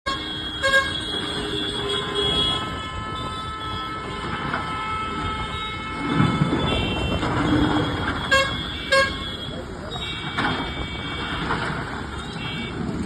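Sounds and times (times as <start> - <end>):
held horn tones: 0.1 - 12.8
vehicle horn tooting: 0.1 - 12.9
street din: 0.1 - 13.0.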